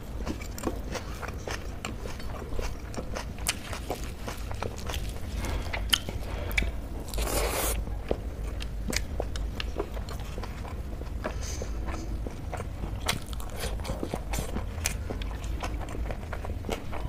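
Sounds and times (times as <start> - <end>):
wet chewing and mouth smacks: 0.1 - 17.0.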